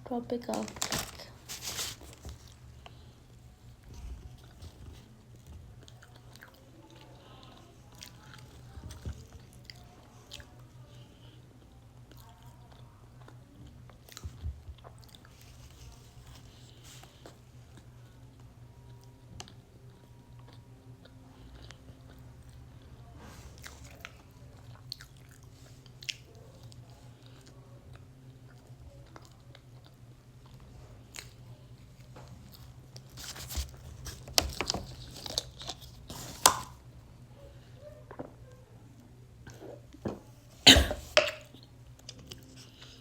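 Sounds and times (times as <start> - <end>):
chewing and biting cake: 1.8 - 36.8.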